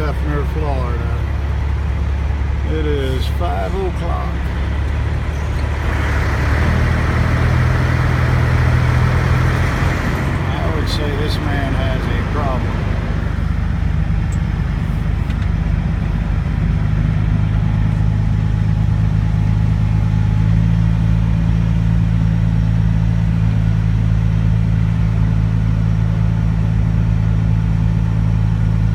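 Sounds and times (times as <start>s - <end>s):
diesel truck engine running: 0.0s - 28.9s.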